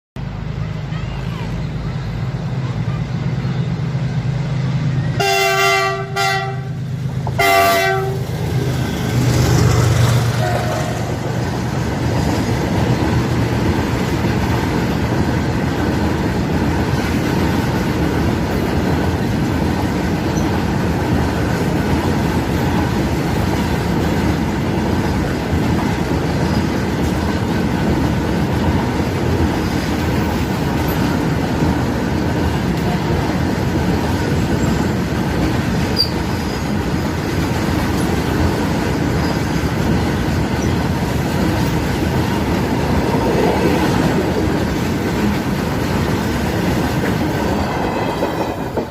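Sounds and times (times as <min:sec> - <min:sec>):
train wheels rumbling on rail: 0:00.2 - 0:48.9.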